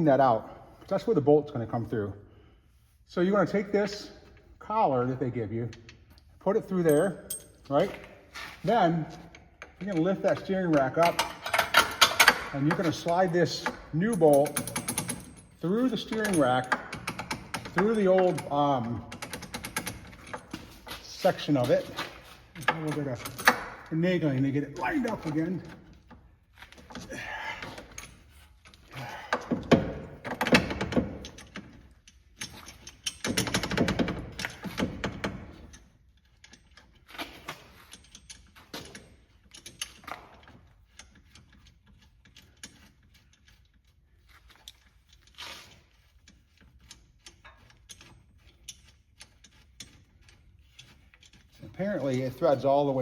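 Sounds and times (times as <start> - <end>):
metal bolt clinking and clattering: 5.8 - 8.2, 8.8 - 53.0.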